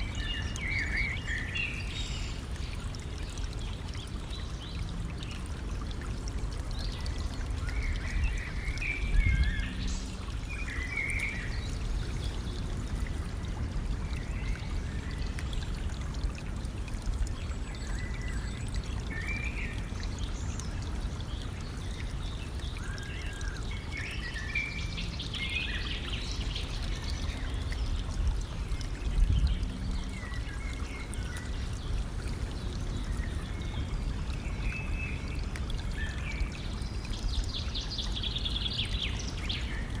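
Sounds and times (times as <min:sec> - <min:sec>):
low water surges: 0:00.0 - 0:40.0
stream water trickling: 0:00.0 - 0:40.0.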